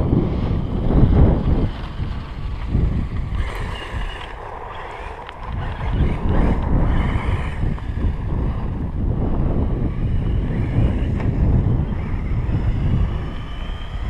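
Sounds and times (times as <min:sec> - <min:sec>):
electric motor whine: 0:00.0 - 0:14.0
wind buffeting microphone: 0:00.0 - 0:14.0.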